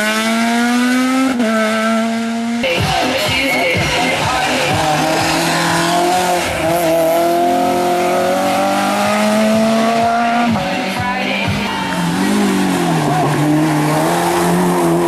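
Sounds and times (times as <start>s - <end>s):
race car engine accelerating: 0.0s - 3.2s, 3.8s - 15.0s.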